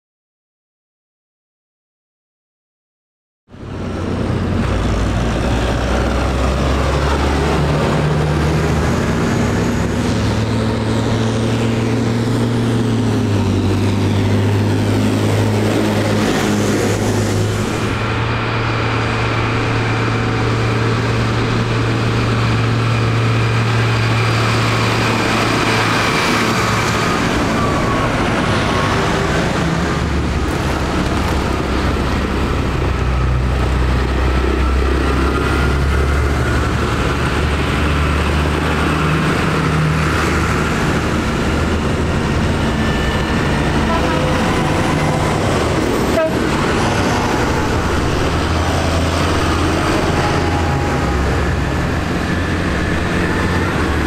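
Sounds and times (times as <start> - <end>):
tractor diesel engines droning: 3.6 - 54.0.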